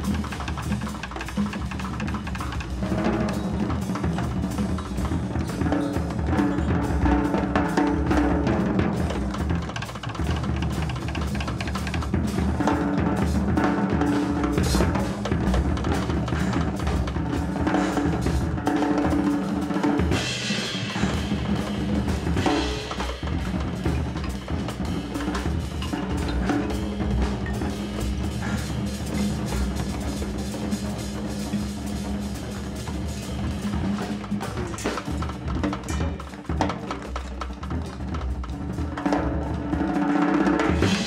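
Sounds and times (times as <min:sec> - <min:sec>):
jazz orchestra playing: 0:00.0 - 0:09.6, 0:11.2 - 0:38.2
drum kits playing: 0:00.0 - 0:41.0.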